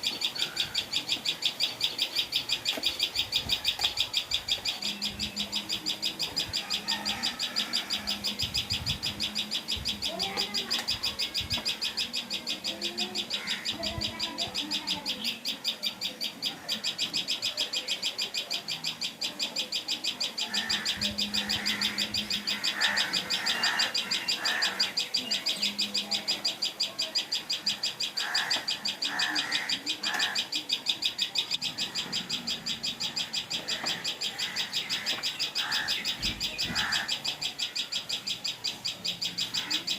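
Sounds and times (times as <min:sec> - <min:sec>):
lower bird calls: 0:00.0 - 0:39.9
sharp high-pitched bird notes: 0:00.0 - 0:39.9.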